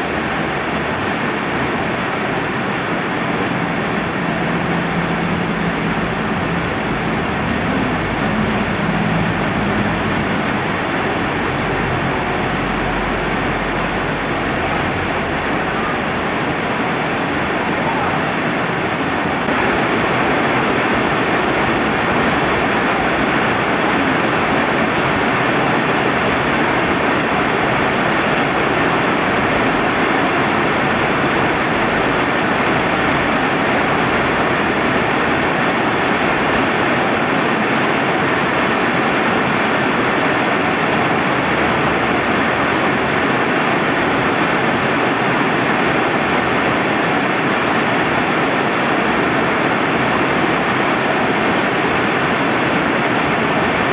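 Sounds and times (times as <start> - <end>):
rain falling: 0.0 - 53.9
river water rushing: 0.0 - 53.9.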